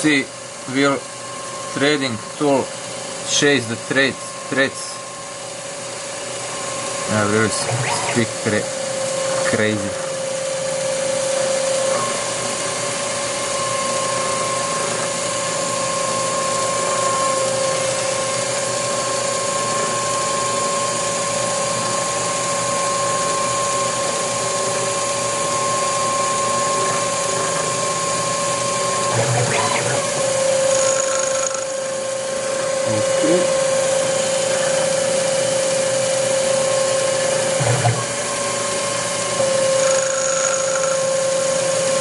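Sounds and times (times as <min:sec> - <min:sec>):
lathe running with a whine: 0:00.0 - 0:42.0.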